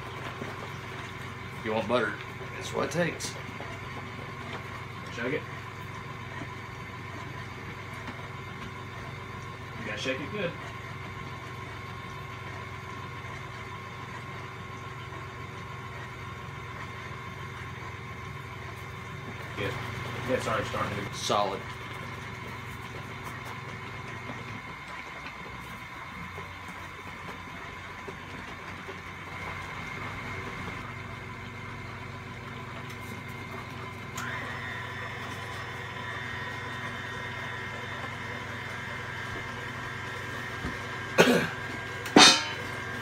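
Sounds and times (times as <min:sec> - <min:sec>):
stand mixer motor running: 0:00.0 - 0:43.0.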